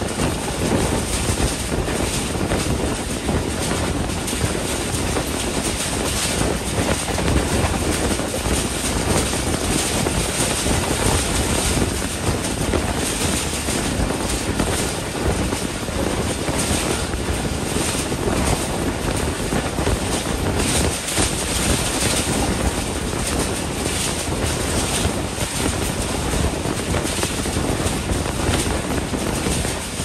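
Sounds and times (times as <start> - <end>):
train wheels rolling on rails: 0.0 - 30.0
wind rushing over microphone: 0.0 - 30.0.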